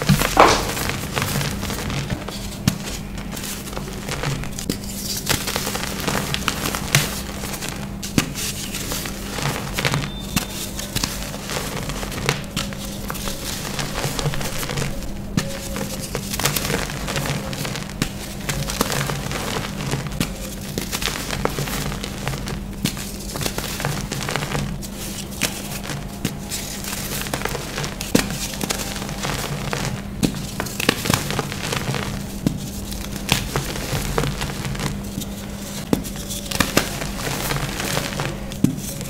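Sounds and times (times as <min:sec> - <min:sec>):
chalk crunching and snapping: 0:00.0 - 0:39.0
steady low hum: 0:00.0 - 0:39.0.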